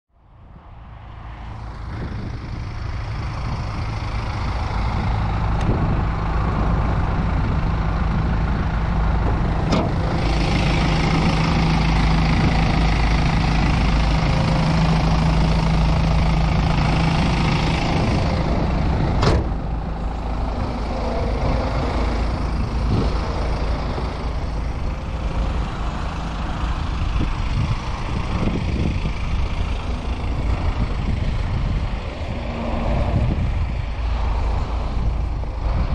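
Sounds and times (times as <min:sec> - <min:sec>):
diesel engine idling: 0:00.2 - 0:35.9.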